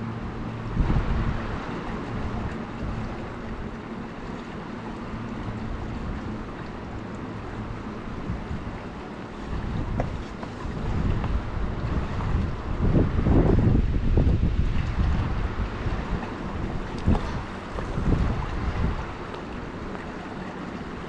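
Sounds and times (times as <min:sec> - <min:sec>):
river rushing: 0:00.0 - 0:21.0
wind buffeting microphone: 0:00.0 - 0:21.0.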